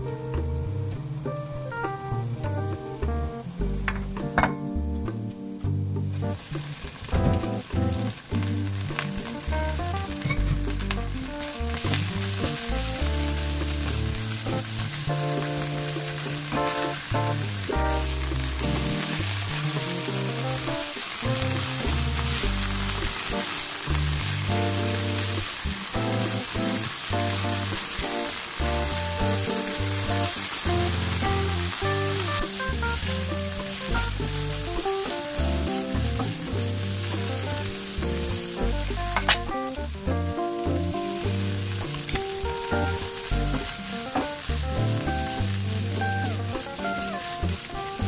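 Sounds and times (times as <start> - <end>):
vegetables sizzling in a wok: 0.0 - 48.0.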